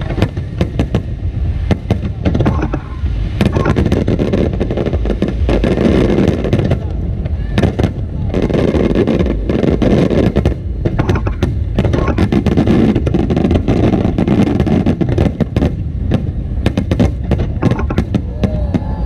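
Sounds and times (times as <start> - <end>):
fireworks cracks and pops: 0.0 - 19.0
low rumble of fireworks bursts: 0.0 - 19.0.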